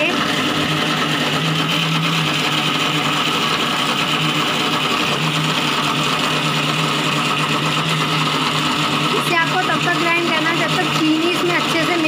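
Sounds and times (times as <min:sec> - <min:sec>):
electric mixer grinder running: 0:00.0 - 0:12.0.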